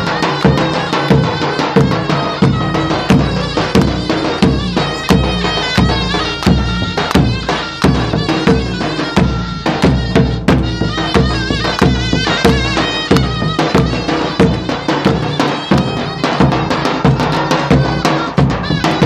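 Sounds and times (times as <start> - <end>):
drum strokes: 0.0 - 19.0
zurna playing melody: 0.0 - 19.0.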